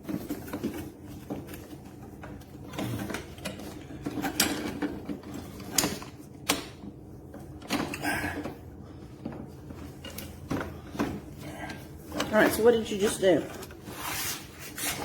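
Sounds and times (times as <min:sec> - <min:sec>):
parts clicking and knocking: 0:00.0 - 0:13.8
rattling and rustling: 0:00.0 - 0:15.0.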